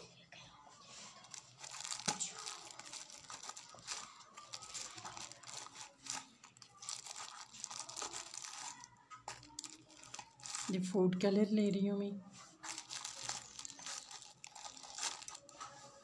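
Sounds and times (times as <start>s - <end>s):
packet crinkling and rustling: 1.1s - 10.9s, 12.4s - 16.0s.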